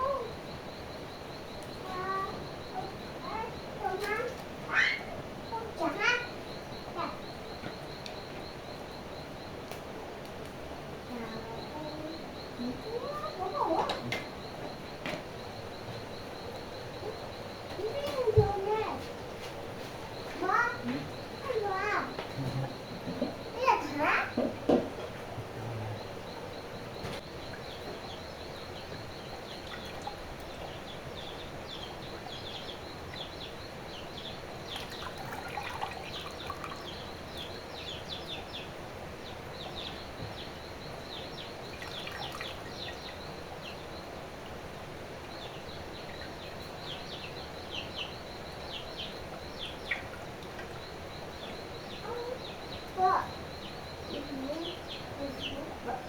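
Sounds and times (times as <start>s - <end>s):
birds chirping: 0.0s - 56.0s
steady water-like noise: 0.4s - 54.1s.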